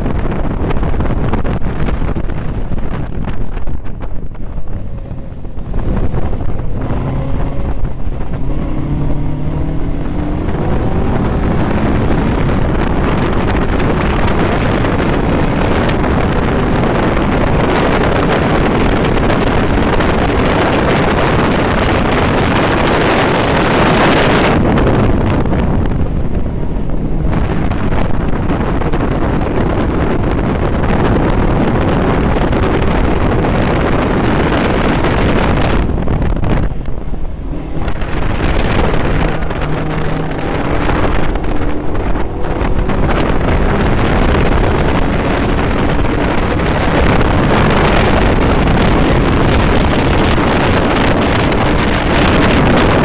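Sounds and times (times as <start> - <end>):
car engine running hard: 0.0 - 53.0
wind buffeting microphone: 0.0 - 53.0.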